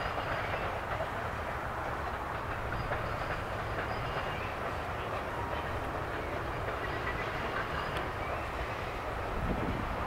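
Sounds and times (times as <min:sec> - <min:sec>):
freight train wheels rumbling: 0:00.0 - 0:10.0.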